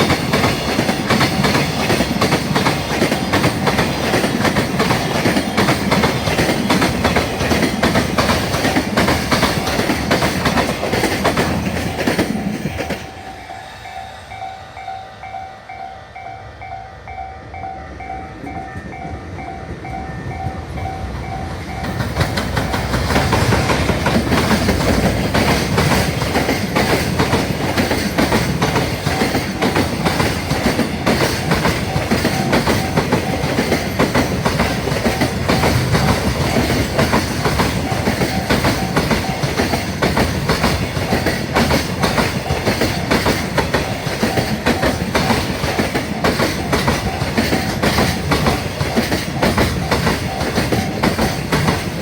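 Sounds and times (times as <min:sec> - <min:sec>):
train wheels clattering over rail joints: 0:00.0 - 0:13.3, 0:21.6 - 0:52.0
railway crossing alarm dinging: 0:00.0 - 0:52.0.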